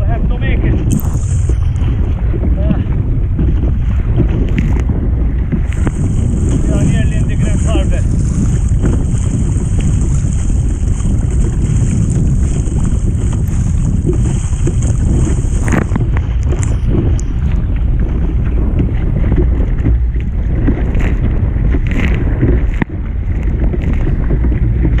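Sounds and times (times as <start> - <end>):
sea water sloshing and splashing: 0.0 - 25.0
wind buffeting microphone: 0.0 - 25.0.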